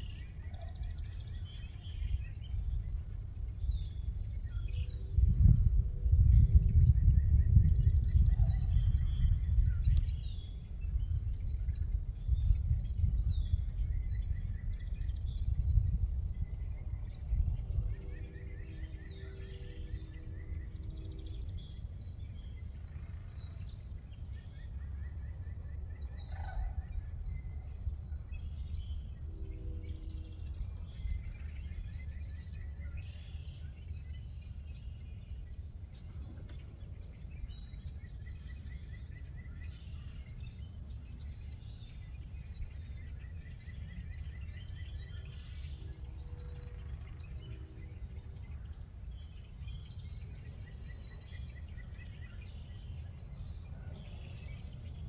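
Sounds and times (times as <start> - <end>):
low gusty rumble: 0.0 - 55.0.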